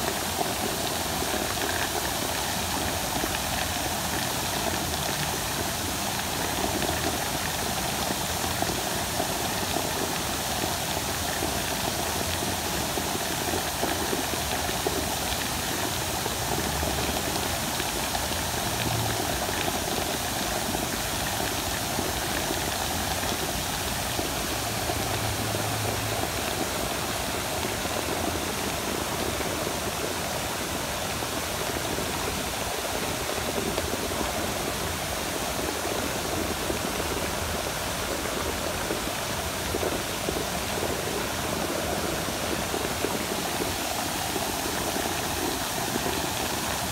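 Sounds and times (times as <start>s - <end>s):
fountain water splashing into pool: 0.0s - 46.9s.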